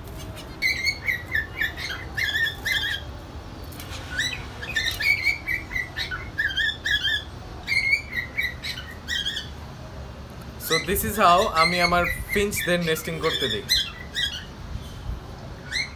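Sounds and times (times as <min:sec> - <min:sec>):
finches chirping: 0:00.2 - 0:09.6, 0:10.6 - 0:15.0.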